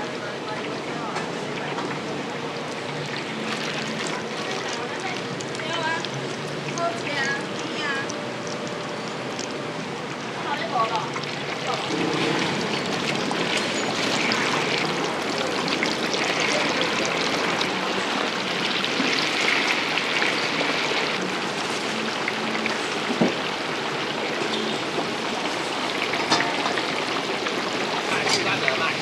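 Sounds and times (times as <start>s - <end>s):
hot oil sizzling in a fryer: 0.0s - 29.0s.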